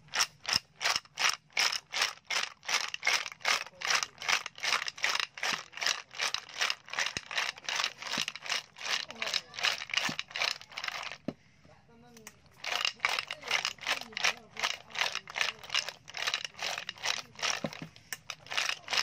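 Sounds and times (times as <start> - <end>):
snail shells rattling in bowl: 0.0 - 11.2, 12.6 - 19.0.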